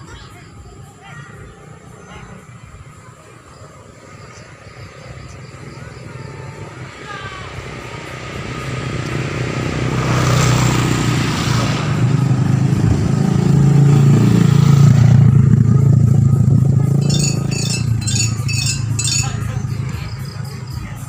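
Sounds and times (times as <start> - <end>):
motorcycles riding past: 0.0 - 21.0.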